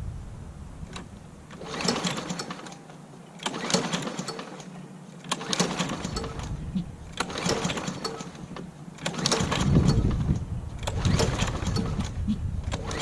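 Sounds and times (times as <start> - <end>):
engine cranking: 0.8 - 13.0
recoil starter pulled: 0.8 - 13.0.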